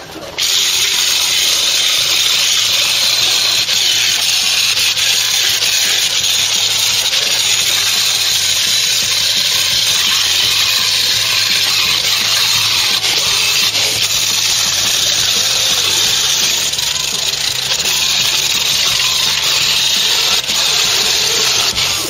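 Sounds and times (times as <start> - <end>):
angle grinder grinding metal: 0.0 - 22.0.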